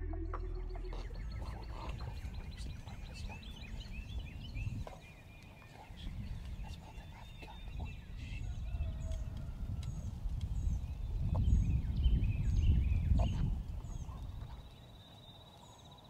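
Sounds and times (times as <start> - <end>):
wind rumble on microphone: 0.0 - 14.9
songbirds chirping and whistling: 0.0 - 16.0.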